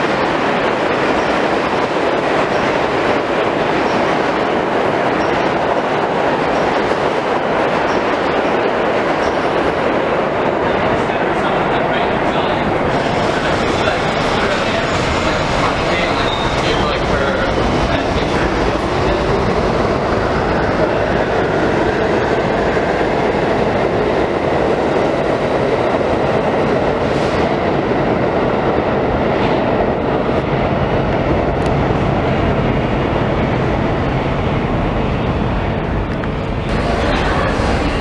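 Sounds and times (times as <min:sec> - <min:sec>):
subway train rumbling on rails: 0:00.0 - 0:38.0.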